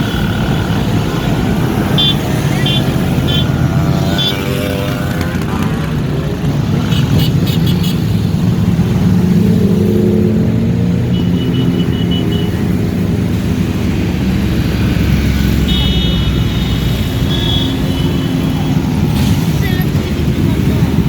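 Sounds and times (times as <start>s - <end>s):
motorcycle engines: 0.0s - 21.0s.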